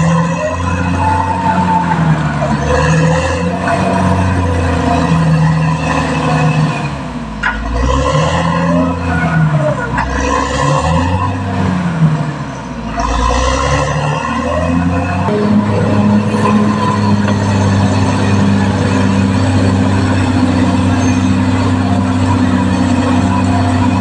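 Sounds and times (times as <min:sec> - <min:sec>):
squealing and scraping of tracks: 0:00.0 - 0:11.5, 0:12.5 - 0:24.0
bulldozer diesel engine: 0:00.0 - 0:24.0.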